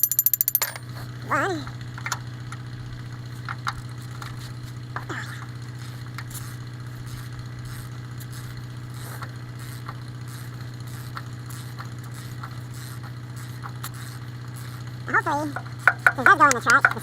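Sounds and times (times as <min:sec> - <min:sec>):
tractor engine idling: 0:00.8 - 0:17.0.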